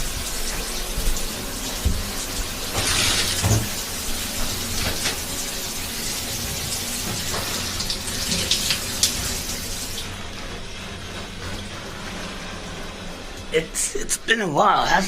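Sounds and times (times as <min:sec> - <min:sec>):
tap water running into sink: 0:00.0 - 0:12.1.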